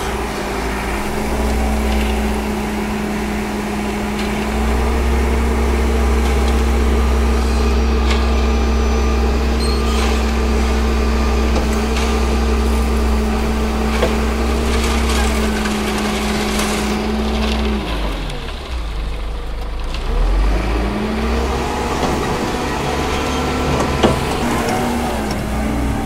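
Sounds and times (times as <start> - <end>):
diesel engine revving: 0.0 - 26.0.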